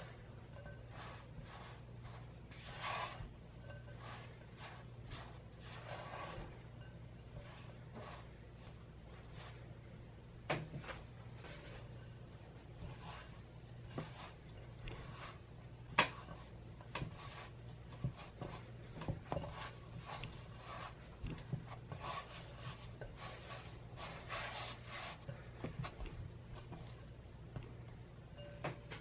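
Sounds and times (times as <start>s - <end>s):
hands kneading bread dough: 0.0s - 29.0s.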